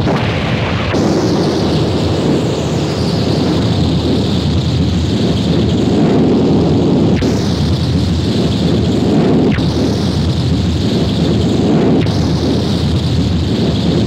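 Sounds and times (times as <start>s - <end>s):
distorted static and rumble: 0.0s - 14.0s.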